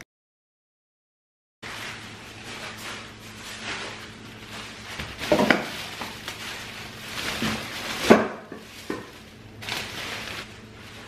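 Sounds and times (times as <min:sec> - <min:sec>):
plastic bags rustling: 0:01.6 - 0:11.0
groceries knocking and clinking: 0:01.7 - 0:11.0.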